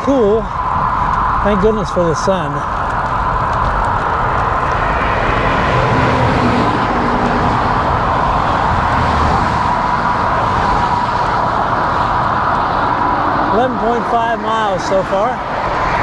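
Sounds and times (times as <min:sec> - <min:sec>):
road traffic noise: 0:00.0 - 0:16.0
wind buffeting microphone: 0:00.0 - 0:16.0.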